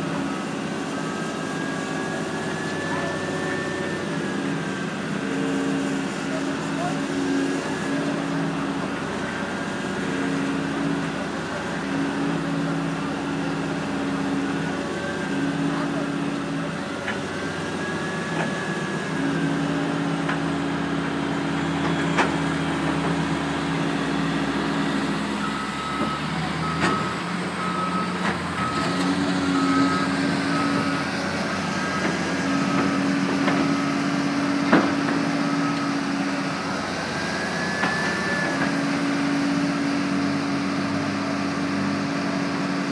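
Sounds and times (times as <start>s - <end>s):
reversing alarm beeping: 0.0s - 8.7s, 9.5s - 20.8s, 21.4s - 34.4s, 35.0s - 40.2s
diesel loader engines working: 0.0s - 42.9s.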